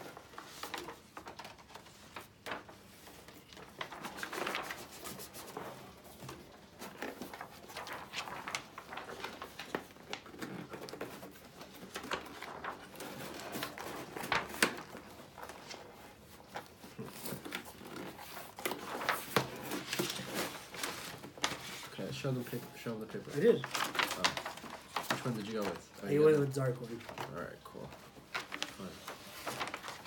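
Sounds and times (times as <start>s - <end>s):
paper rustling and crackling: 0.0s - 30.0s.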